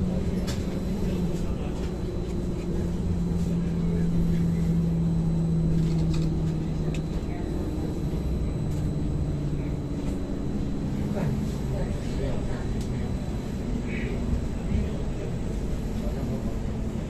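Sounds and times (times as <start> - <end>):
tram motor hum: 0.0 - 17.0
tram ride rumble: 0.0 - 17.0.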